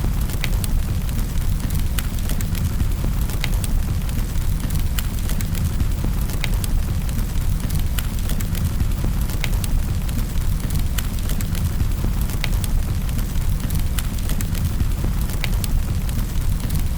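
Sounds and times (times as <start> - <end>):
fire low rumble: 0.0 - 16.9
wood fire crackling and popping: 0.0 - 16.9.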